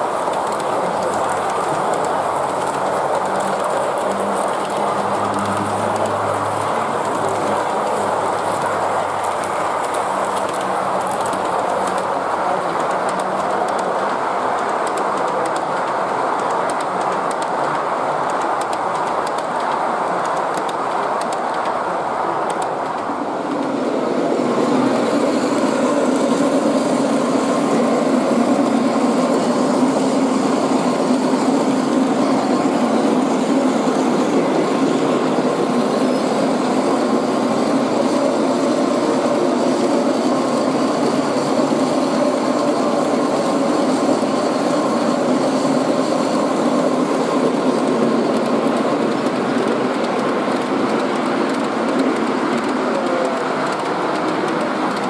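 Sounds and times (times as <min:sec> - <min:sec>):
model train wheels rolling: 0:00.0 - 0:55.0.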